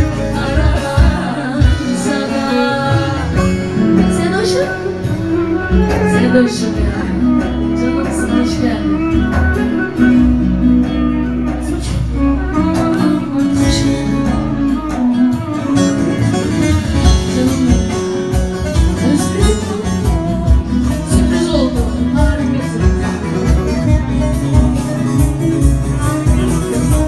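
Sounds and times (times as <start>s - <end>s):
live folk band playing: 0.0s - 27.0s.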